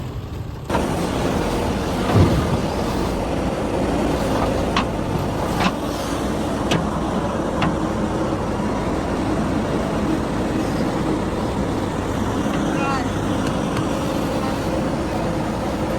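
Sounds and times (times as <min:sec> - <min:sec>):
diesel tractor engine running: 0:00.0 - 0:15.9.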